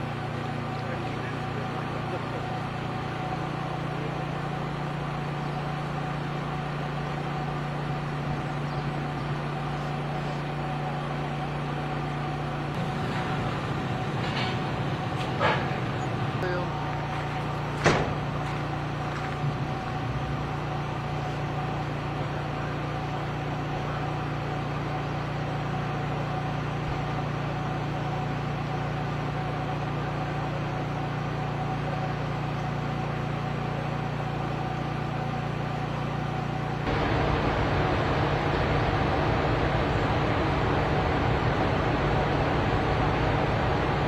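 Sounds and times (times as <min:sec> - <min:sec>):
cars idling: 0:00.0 - 0:44.0.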